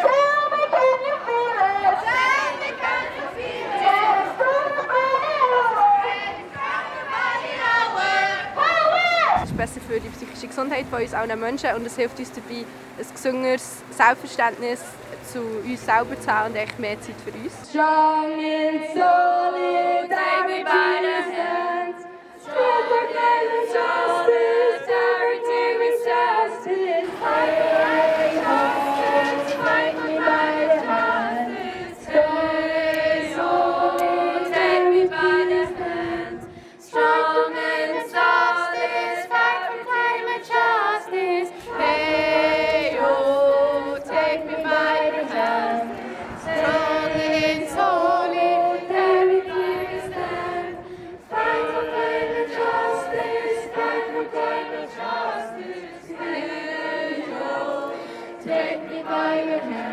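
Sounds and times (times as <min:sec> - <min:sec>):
group singing a cappella: 0:00.0 - 0:09.4, 0:14.8 - 0:59.9.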